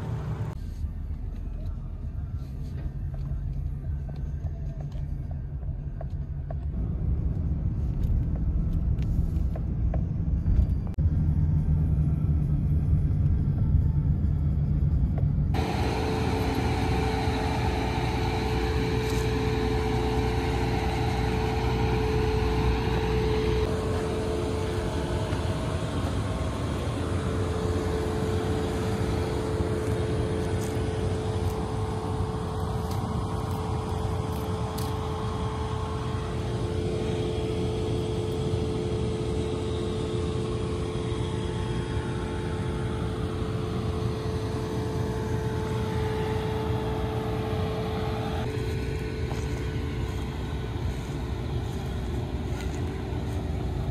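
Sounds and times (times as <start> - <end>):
harvest machinery engine drone: 0.0 - 53.9.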